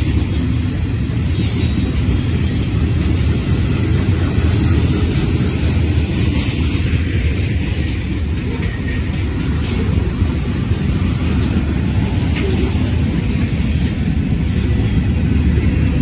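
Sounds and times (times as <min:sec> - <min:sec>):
train wheels rolling on track: 0:00.0 - 0:16.0.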